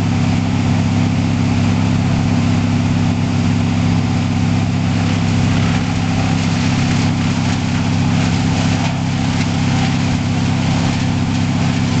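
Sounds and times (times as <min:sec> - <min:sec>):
wood chipper engine running: 0:00.0 - 0:12.0.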